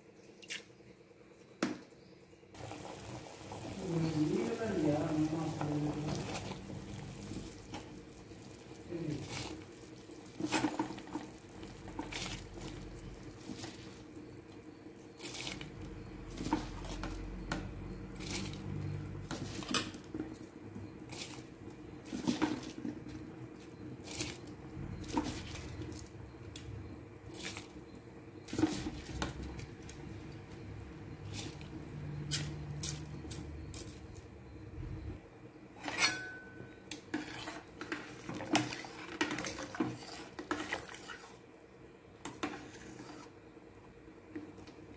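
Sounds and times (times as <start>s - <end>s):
steady low hum: 0.0s - 40.6s.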